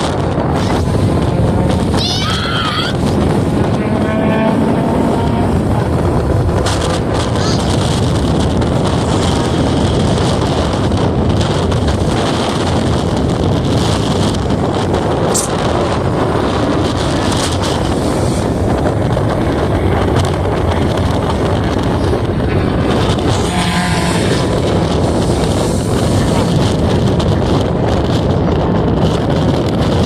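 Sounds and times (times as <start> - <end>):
wind buffeting microphone: 0.0 - 30.0
race car engine running: 3.0 - 30.0.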